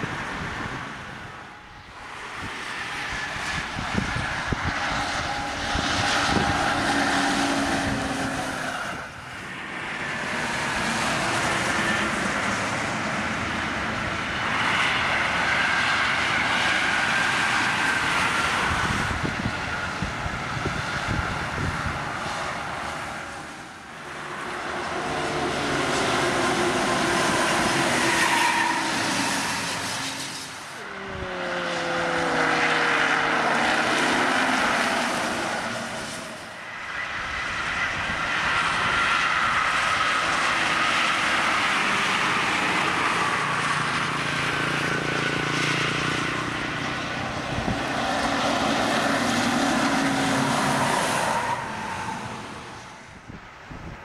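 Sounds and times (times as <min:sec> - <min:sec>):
trucks and buses passing: 0:00.0 - 0:54.0.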